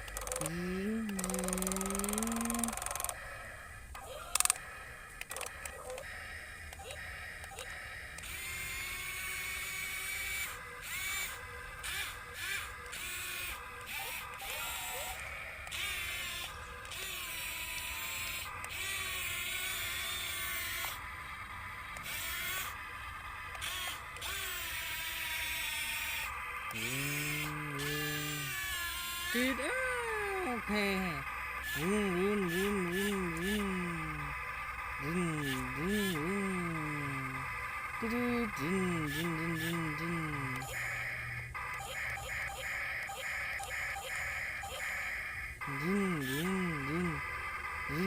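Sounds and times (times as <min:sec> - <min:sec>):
low steady hum: 0:00.0 - 0:14.5, 0:15.6 - 0:42.5
small electric motors whining: 0:00.0 - 0:48.0.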